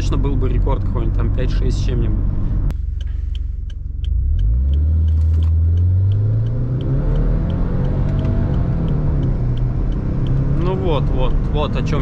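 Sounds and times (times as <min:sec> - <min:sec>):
car engine accelerating: 0:00.0 - 0:12.0
light ticking: 0:00.0 - 0:12.0.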